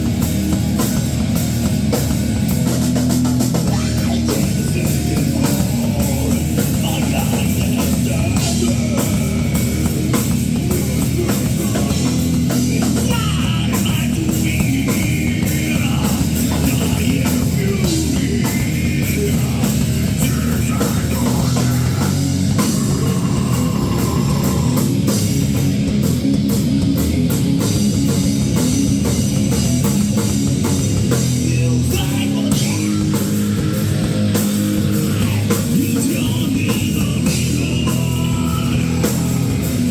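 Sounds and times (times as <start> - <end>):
distorted electric guitars: 0.0 - 39.9
pounding drums: 0.0 - 39.9.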